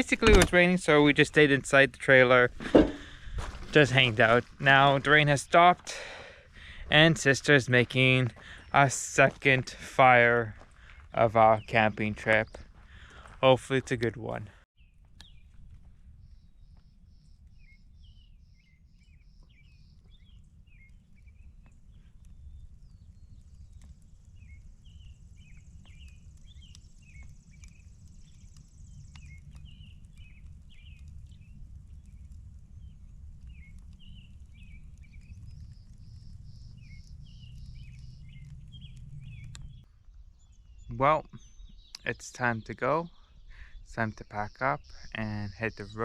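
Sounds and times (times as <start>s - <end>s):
low rumble of wind: 0.0s - 13.4s, 14.8s - 42.1s
birds chirping: 0.0s - 46.0s.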